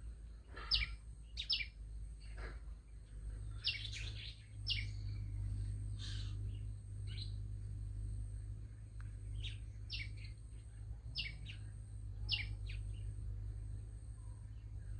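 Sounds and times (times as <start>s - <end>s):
steady low hum: 0.0s - 14.9s
small bird chirping: 0.1s - 14.9s.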